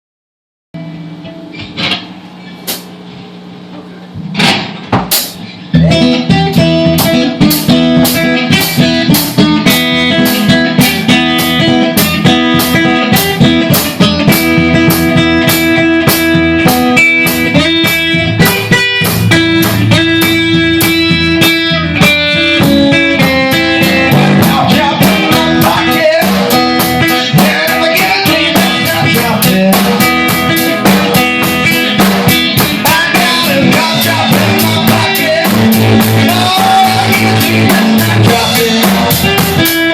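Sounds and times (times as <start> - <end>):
blues guitar: 0.8 - 39.9
drum kit beat: 1.8 - 3.1, 4.2 - 39.9.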